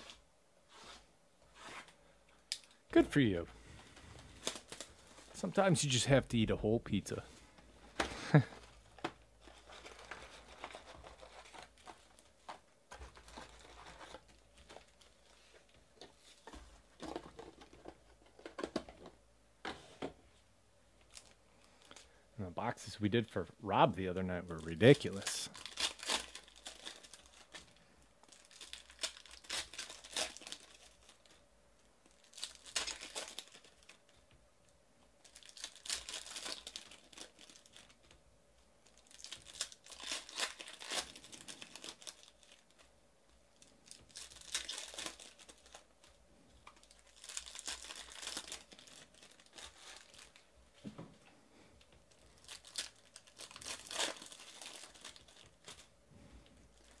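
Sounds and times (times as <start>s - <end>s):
plastic wrapping crinkling and tearing: 0.0s - 0.2s, 0.8s - 6.2s, 7.9s - 19.2s, 21.0s - 22.2s, 24.0s - 31.4s, 32.0s - 34.2s, 35.2s - 38.2s, 38.8s - 50.8s, 52.0s - 55.9s, 56.5s - 57.0s.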